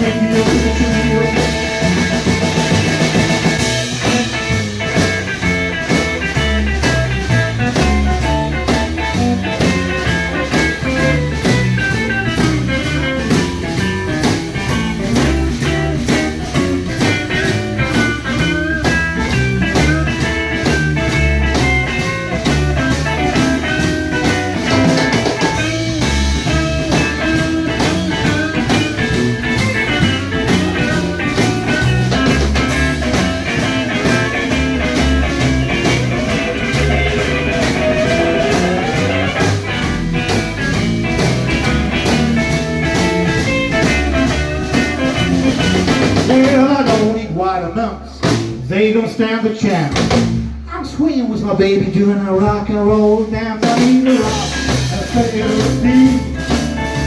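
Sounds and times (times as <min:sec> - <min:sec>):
guitar melody: 0:00.0 - 0:47.3, 0:53.8 - 0:57.0
rock band playing: 0:00.0 - 0:57.0.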